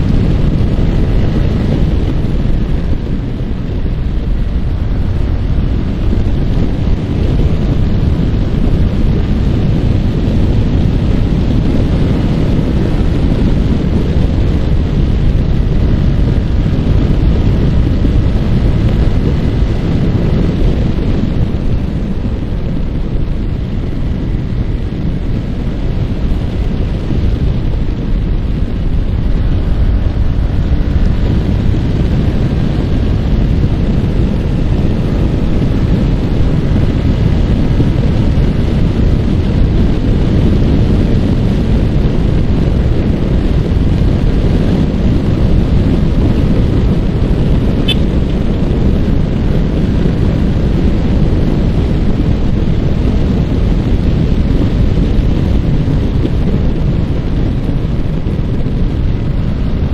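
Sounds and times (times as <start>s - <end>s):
motorcycle engine cruising: 0.0s - 59.9s
wind buffeting microphone: 0.0s - 59.9s.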